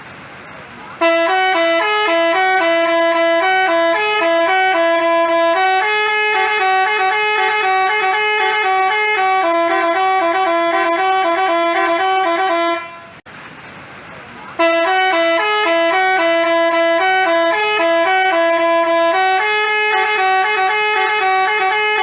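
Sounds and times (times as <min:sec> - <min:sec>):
multi-tone musical bus horn: 0:01.0 - 0:13.2, 0:14.6 - 0:22.0.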